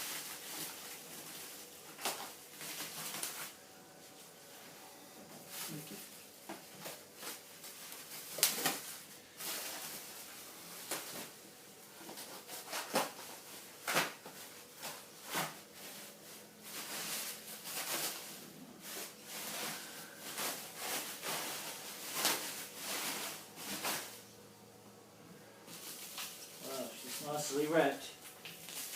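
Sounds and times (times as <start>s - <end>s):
packaging rustling and crinkling: 0.0s - 3.6s, 5.4s - 11.4s, 12.0s - 24.2s, 25.7s - 27.5s, 28.2s - 28.9s.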